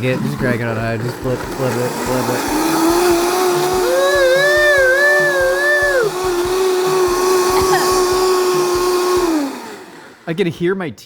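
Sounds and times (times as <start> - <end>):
blender running: 0.0 - 10.5.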